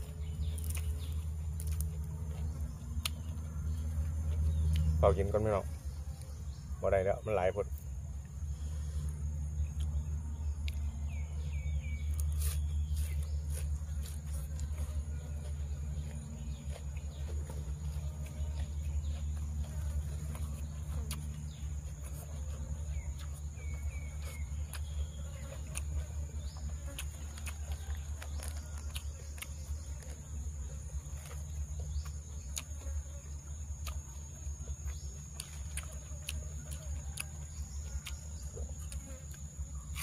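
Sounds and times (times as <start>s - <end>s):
person chewing: 0.0s - 5.4s, 7.8s - 40.0s.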